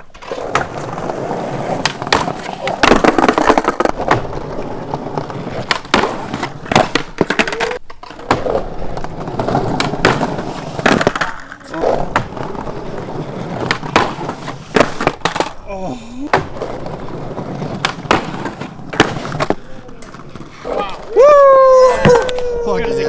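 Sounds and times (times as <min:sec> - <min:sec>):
skateboard clacks and slaps: 0:00.0 - 0:22.9
skateboard wheels rolling on concrete: 0:00.0 - 0:23.0.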